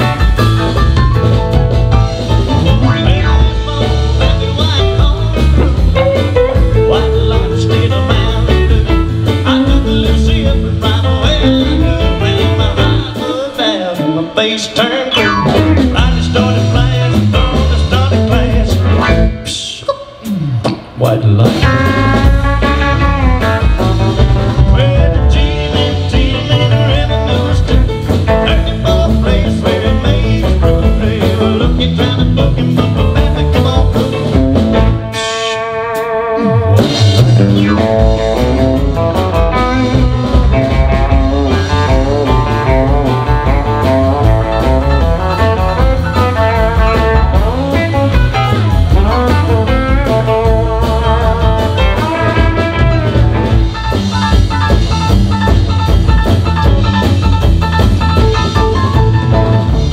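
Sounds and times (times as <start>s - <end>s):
electric guitar lead: 0.0s - 59.9s
live country band instrumental: 0.0s - 59.9s.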